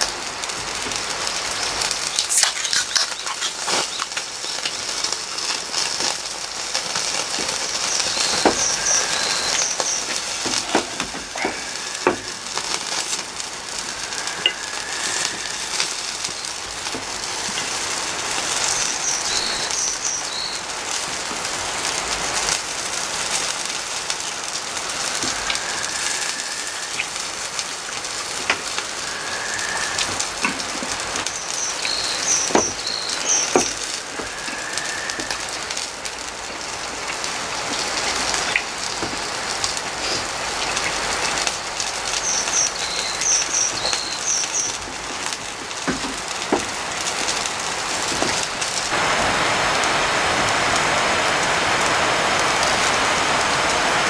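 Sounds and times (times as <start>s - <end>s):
fat popping and crackling: 0.0s - 49.0s
meat sizzling on a grill: 0.0s - 54.0s.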